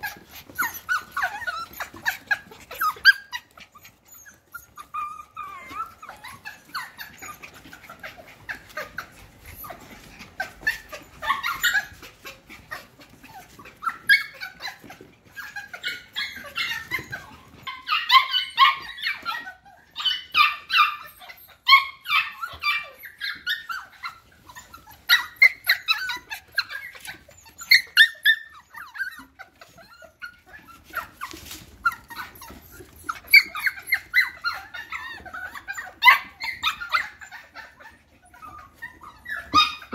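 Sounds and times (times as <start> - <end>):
puppies yelping: 0.0 - 39.9.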